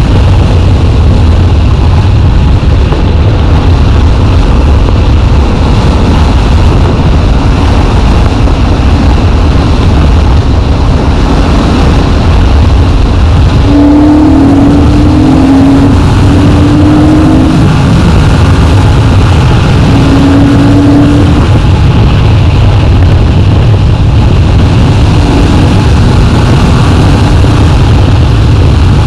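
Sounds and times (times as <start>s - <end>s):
motorcycle engine running: 0.0s - 29.0s
wind rush over microphone: 0.0s - 29.0s.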